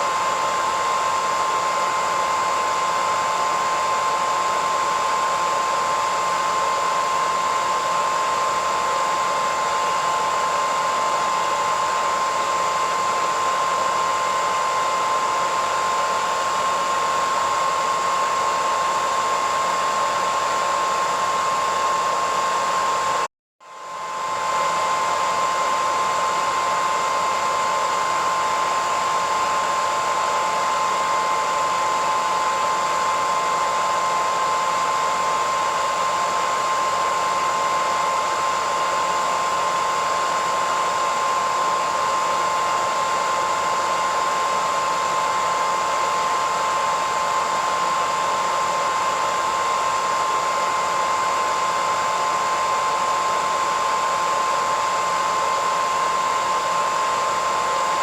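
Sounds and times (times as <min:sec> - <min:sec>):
hairdryer running: 0:00.0 - 0:58.0.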